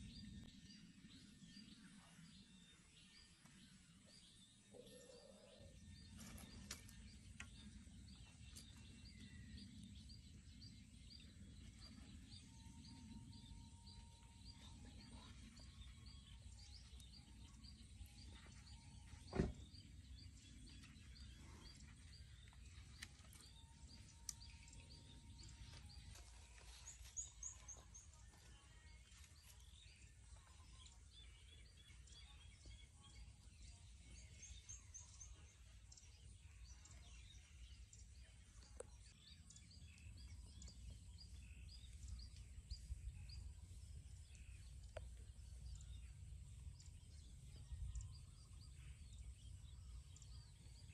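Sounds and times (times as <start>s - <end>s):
distant bird chirps: 0.0s - 50.9s.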